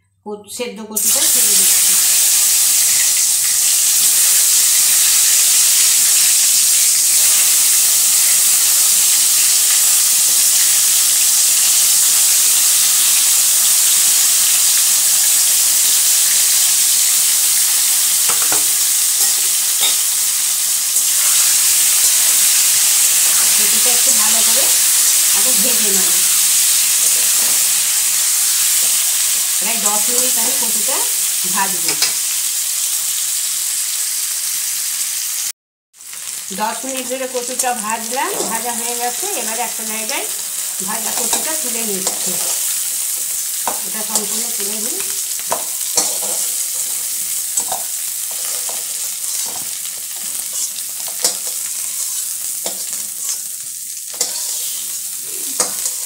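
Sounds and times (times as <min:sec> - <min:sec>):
food sizzling in hot oil: 0:00.9 - 0:56.0.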